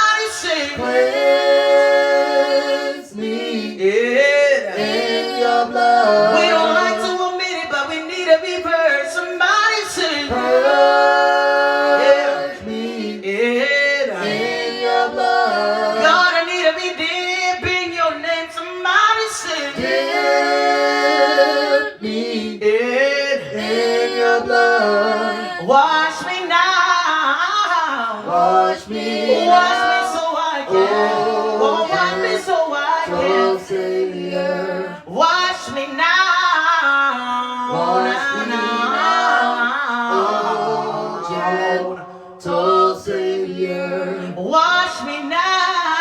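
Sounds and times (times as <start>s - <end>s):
a cappella gospel singing: 0.0s - 46.0s.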